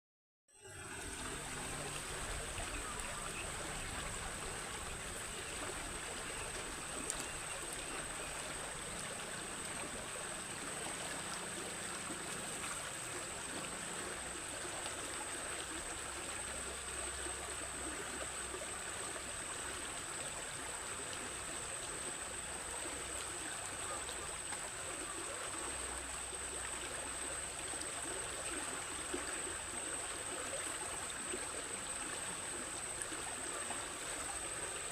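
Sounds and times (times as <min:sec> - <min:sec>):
stream water rushing: 0:00.6 - 0:34.9.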